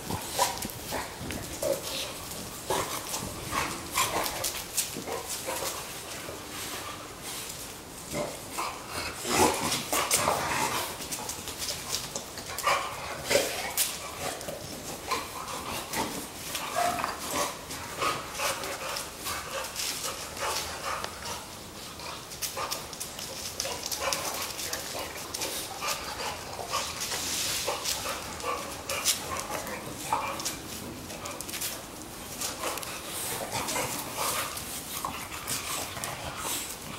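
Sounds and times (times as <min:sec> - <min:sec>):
paws scuffling on stone floor: 0:00.0 - 0:36.9.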